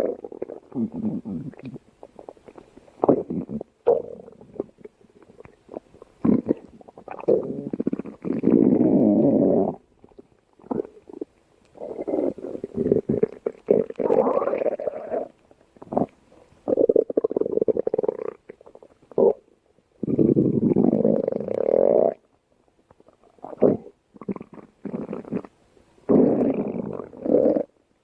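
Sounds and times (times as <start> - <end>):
stomach growling: 0.0 - 27.8.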